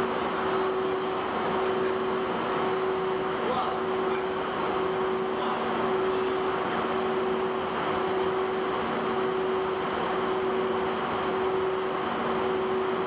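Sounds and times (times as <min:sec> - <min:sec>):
constant noise wash: 0:00.0 - 0:13.0
locomotive droning hum: 0:00.0 - 0:13.0.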